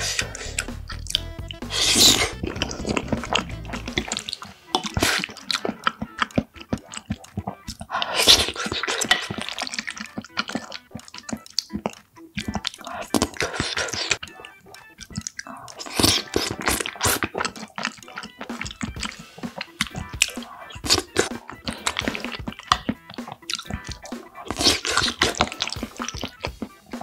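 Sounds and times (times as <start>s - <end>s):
wet chewing and mouth sounds: 0.0s - 27.0s.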